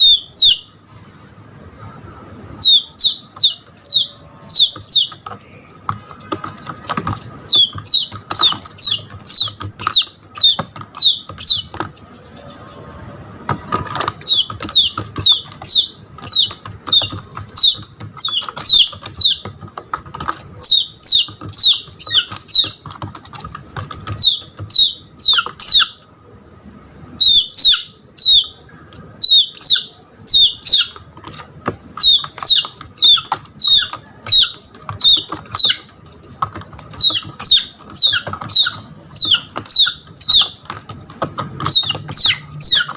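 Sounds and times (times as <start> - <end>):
chick distress peeps: 2.0 - 19.6, 20.3 - 23.2, 23.8 - 26.0, 27.2 - 36.0, 36.6 - 42.9.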